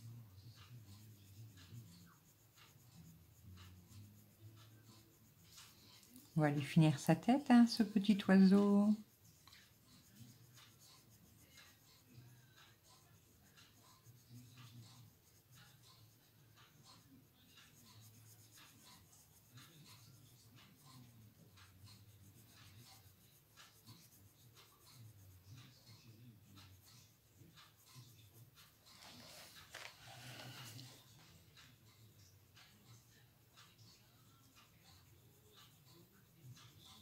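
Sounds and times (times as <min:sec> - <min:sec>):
pencil scratching on paper: 0:00.0 - 0:37.0.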